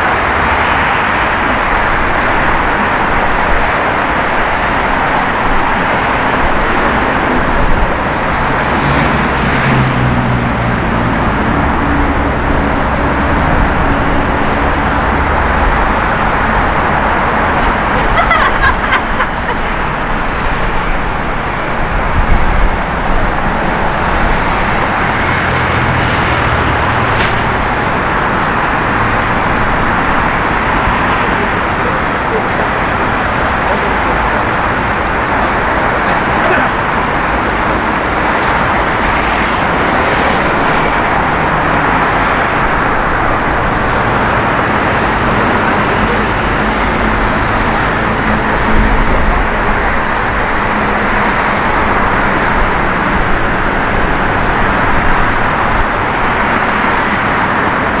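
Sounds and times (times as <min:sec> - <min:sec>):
city street traffic: 0:00.0 - 0:58.0
vehicle engine hum: 0:00.0 - 0:58.0.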